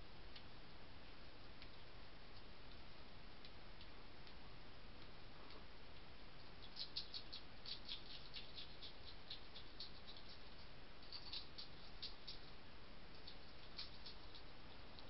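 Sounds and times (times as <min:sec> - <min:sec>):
hedgehog chewing dry food: 0:01.4 - 0:15.0.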